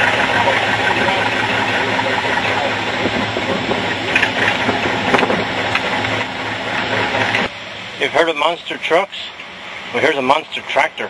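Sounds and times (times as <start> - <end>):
tractor engine running under load: 0.0 - 11.0.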